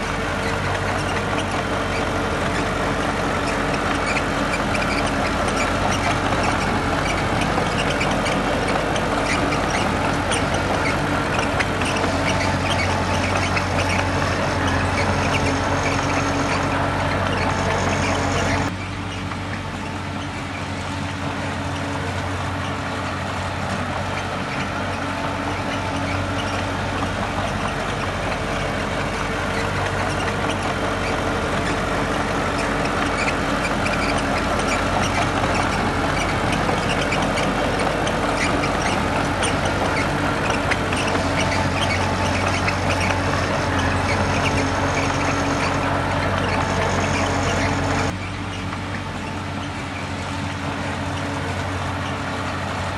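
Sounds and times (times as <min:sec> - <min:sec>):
metal clanks and squeaks: 0:00.0 - 0:52.7
heavy diesel machinery running: 0:00.0 - 0:52.9.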